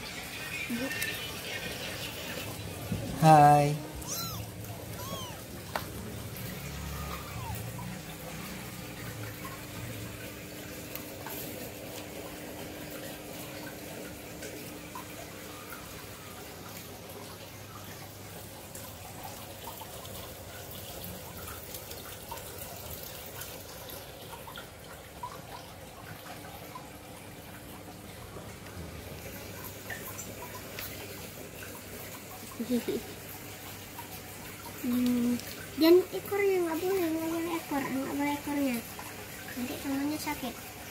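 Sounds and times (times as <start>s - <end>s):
aquarium water bubbling and trickling: 0.0s - 40.9s.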